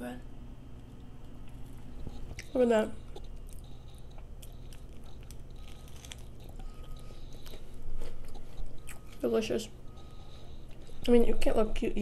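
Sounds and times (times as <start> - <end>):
person chewing food: 0.8 - 11.1.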